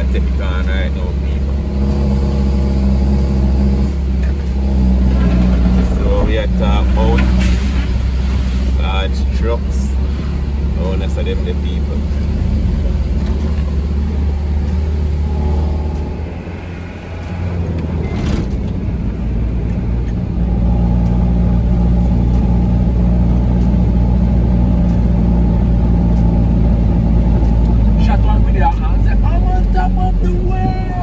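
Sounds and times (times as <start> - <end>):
truck engine pulling uphill: 0.0 - 31.0.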